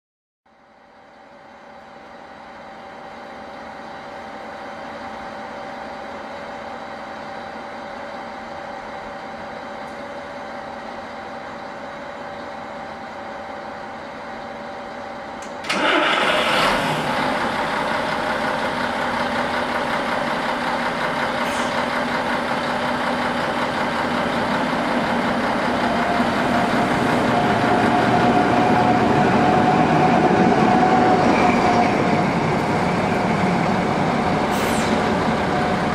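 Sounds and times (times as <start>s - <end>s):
locomotive engine running: 1.7s - 35.9s.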